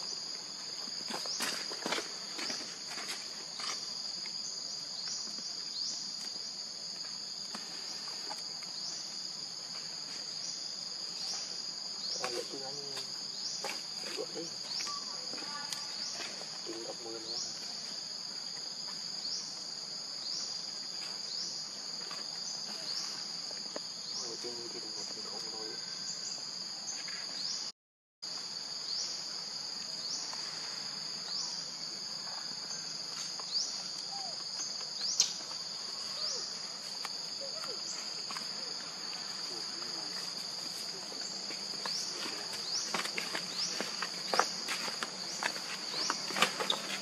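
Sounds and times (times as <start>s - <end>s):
insects buzzing drone: 0.0s - 47.0s.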